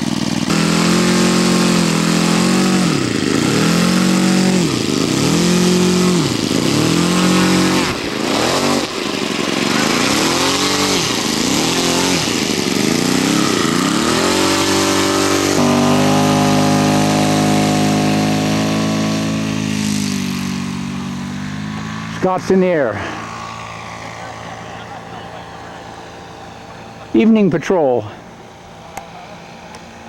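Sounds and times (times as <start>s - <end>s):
model plane engine revving: 0.0s - 27.4s.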